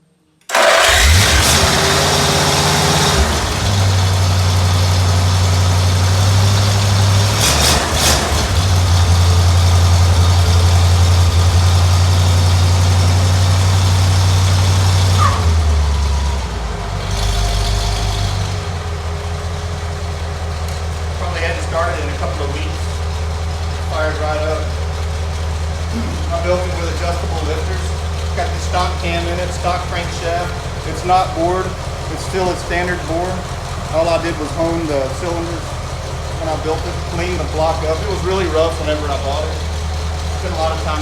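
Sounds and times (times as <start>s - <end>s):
car engine starting and idling: 0.5s - 41.0s.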